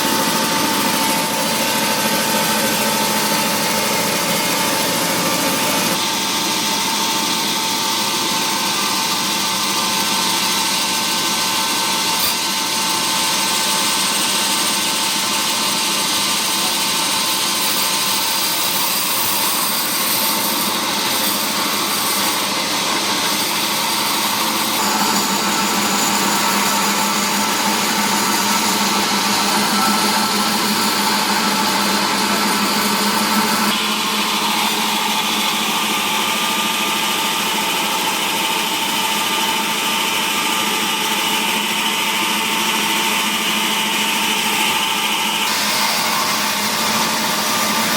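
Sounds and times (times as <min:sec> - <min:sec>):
woodworking machinery whining: 0:00.0 - 0:47.9.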